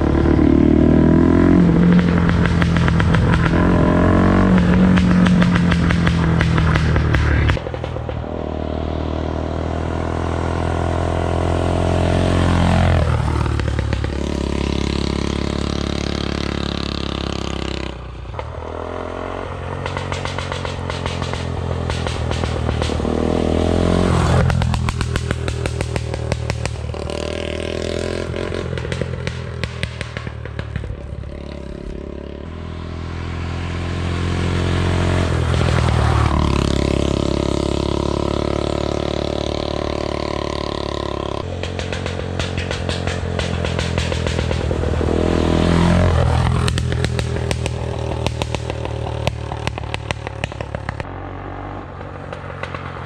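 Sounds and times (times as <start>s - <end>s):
two-stroke engine revving: 0.0s - 53.0s.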